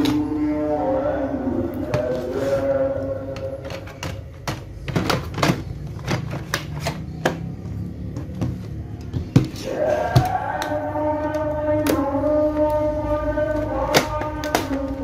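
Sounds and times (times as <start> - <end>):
plastic covers clicking and knocking: 0.0 - 0.4, 3.2 - 15.0.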